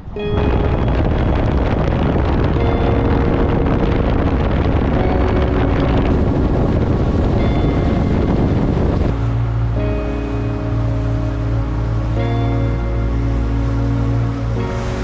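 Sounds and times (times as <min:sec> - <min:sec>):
wind noise on microphone: 0:00.0 - 0:15.0
outboard motor running: 0:00.2 - 0:15.0.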